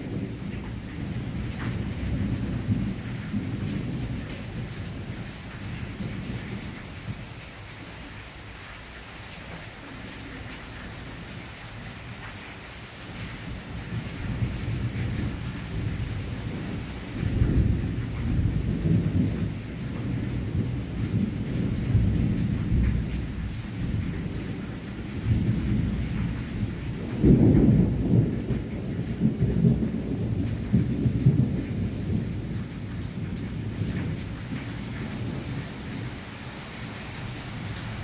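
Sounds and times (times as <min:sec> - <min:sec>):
rain falling on leaves: 0:00.0 - 0:38.0.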